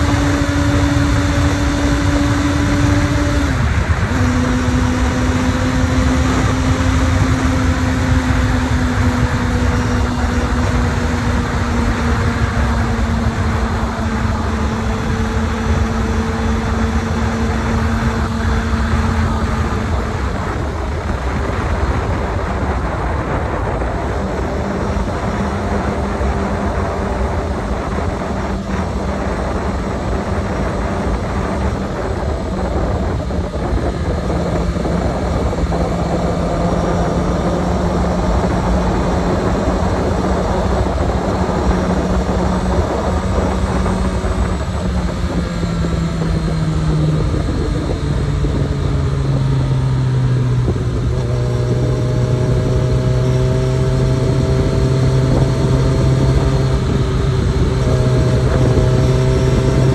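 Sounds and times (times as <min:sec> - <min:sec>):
motorcycle engine running: 0:00.0 - 0:59.9
wind buffeting on microphone: 0:00.0 - 0:59.9.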